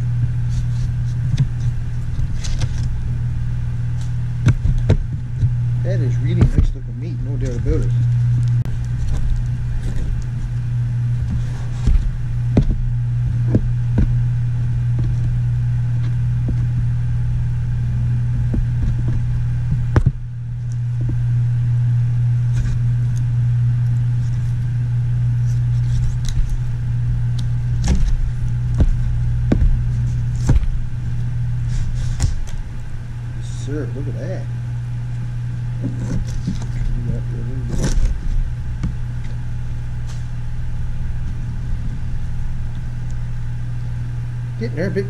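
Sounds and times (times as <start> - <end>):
machine humming: 0.0 - 45.0.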